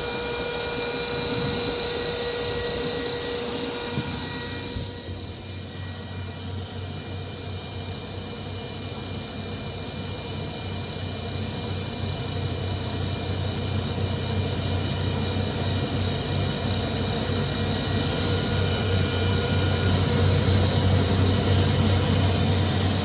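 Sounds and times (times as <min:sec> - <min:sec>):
air compressor humming and whining: 0:00.0 - 0:23.0.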